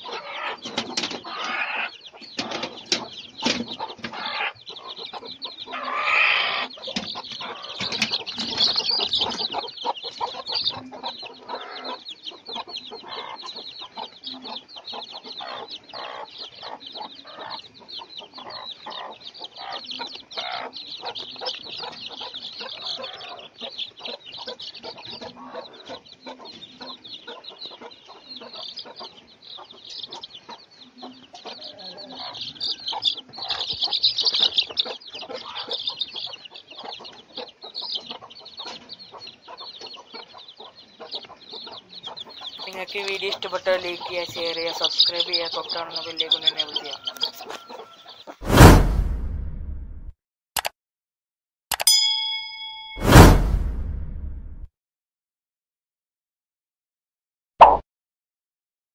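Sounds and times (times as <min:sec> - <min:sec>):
chickens clucking: 0:00.0 - 0:48.4
chicks peeping: 0:00.0 - 0:48.4.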